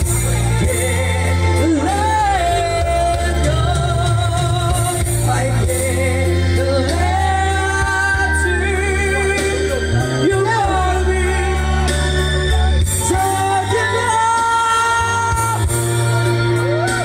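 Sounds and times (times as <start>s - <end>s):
backing music bass notes: 0.0s - 17.0s
person singing with vibrato: 0.0s - 17.0s.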